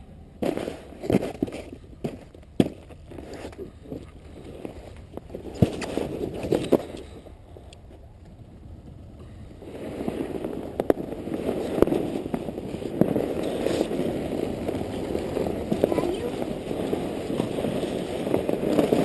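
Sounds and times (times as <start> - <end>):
snow tube scraping over snow: 0.4 - 7.2, 9.2 - 19.0.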